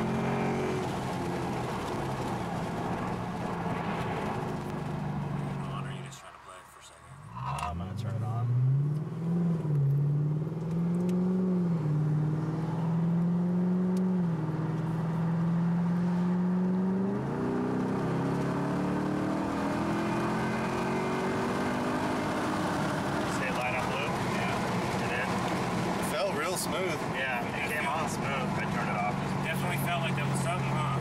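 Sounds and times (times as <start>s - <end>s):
car engine from inside cabin: 0.0s - 6.2s, 6.9s - 31.0s.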